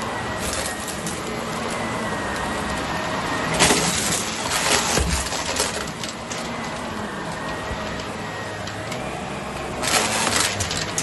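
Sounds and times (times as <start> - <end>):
debris rattling in vacuum: 0.0 - 11.0
vacuum cleaner whine: 0.0 - 11.0.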